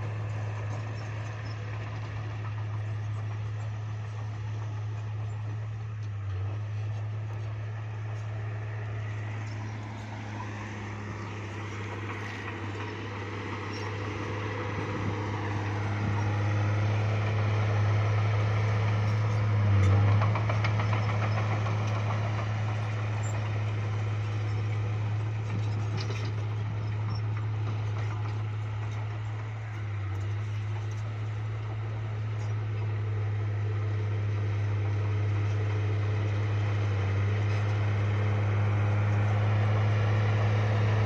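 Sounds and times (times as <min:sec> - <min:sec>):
bulldozer diesel engine droning: 0:00.0 - 0:41.0.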